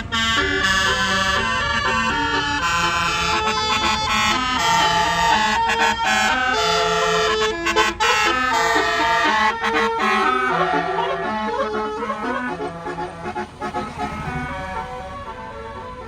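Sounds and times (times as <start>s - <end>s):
musical air horn playing a tune: 0.0s - 16.0s.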